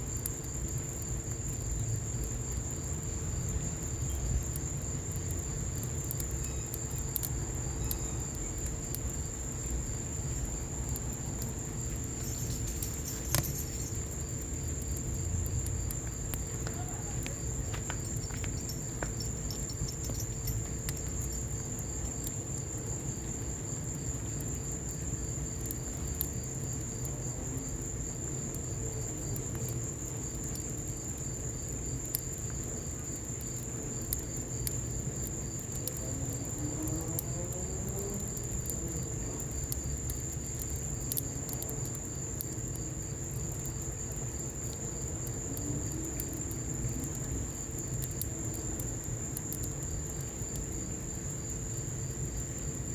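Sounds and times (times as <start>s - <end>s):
crickets chirring: 0.0s - 52.9s
rain: 0.0s - 52.9s
wood fire crackling: 0.0s - 52.9s.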